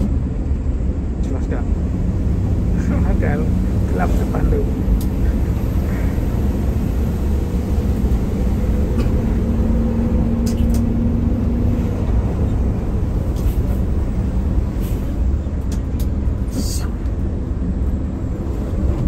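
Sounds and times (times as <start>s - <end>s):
heavy engine rumbling: 0.0s - 19.0s.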